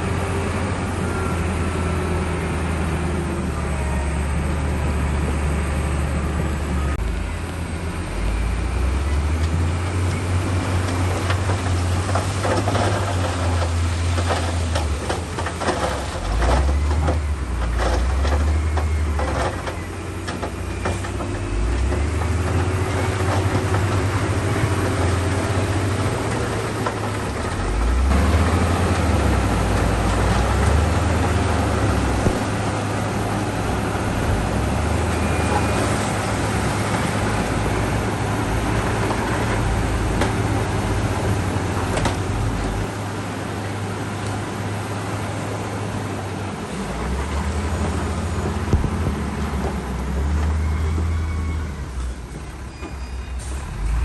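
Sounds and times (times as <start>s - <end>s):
bulldozer diesel engine rumbling: 0.0s - 54.0s.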